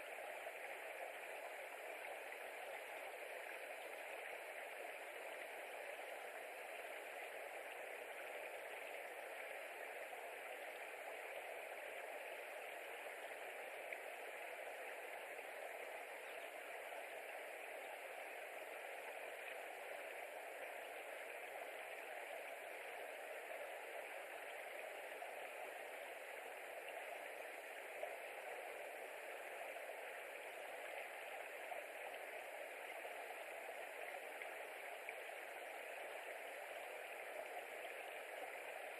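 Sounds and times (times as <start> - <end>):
steady outdoor background hiss: 0.0 - 38.9.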